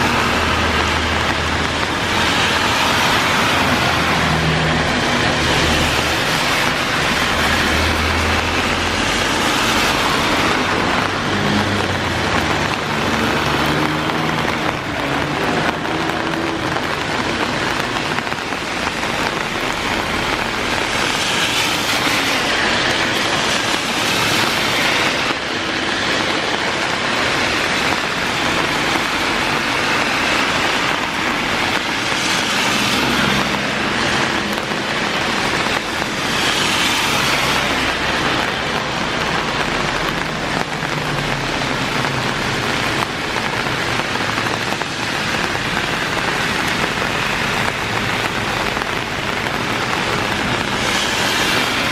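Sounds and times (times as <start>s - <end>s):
car tyres hissing on wet road: 0.0s - 51.9s
heavy rain: 0.0s - 51.9s.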